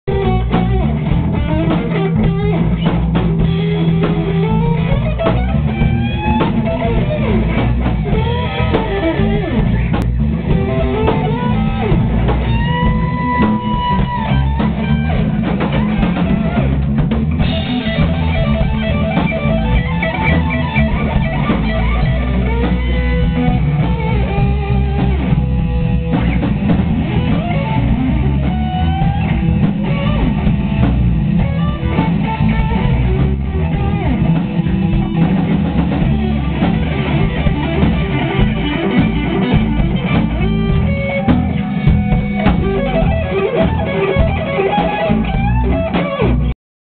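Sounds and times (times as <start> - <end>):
drum kit: 0.0 - 46.6
electric guitar: 0.0 - 46.6
fretless bass: 0.0 - 46.6.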